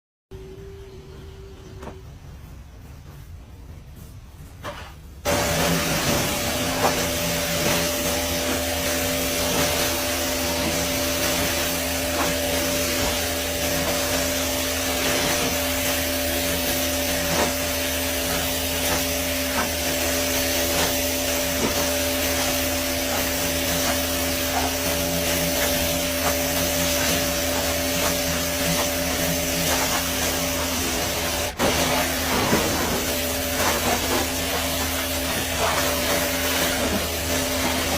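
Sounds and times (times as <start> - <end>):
mechanical hum: 0.3 - 37.9
car wash water rushing: 5.1 - 37.9.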